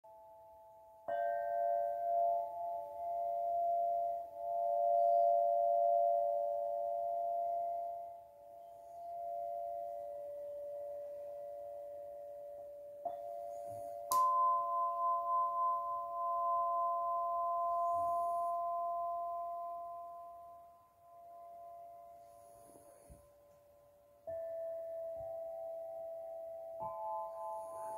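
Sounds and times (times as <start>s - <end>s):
singing bowl ringing: 0.1s - 27.9s.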